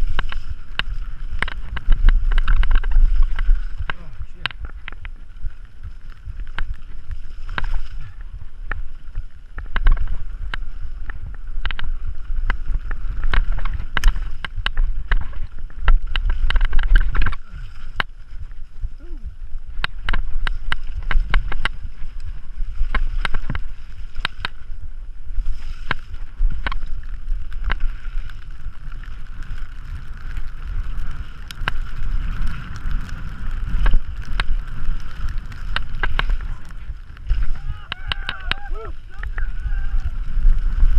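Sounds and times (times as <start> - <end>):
bike clicking and rattling: 0.0 - 40.9
wind rumble on microphone: 0.0 - 40.9.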